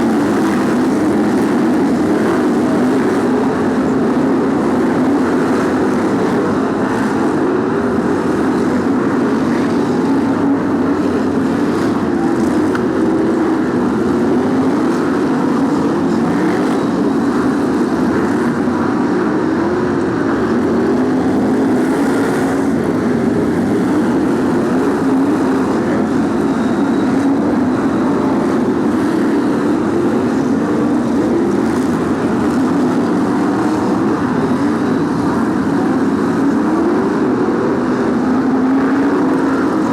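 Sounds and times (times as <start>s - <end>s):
racing car engines: 0.0s - 39.9s.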